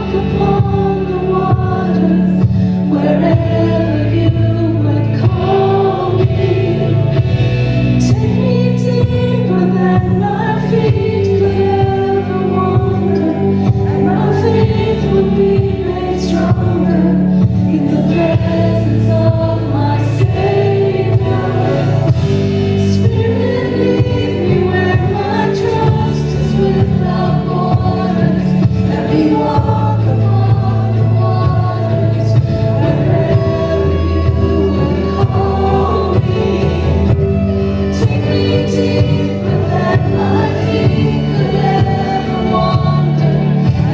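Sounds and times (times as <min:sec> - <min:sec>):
group singing worship song: 0:00.0 - 0:43.9
live band playing: 0:00.0 - 0:43.9.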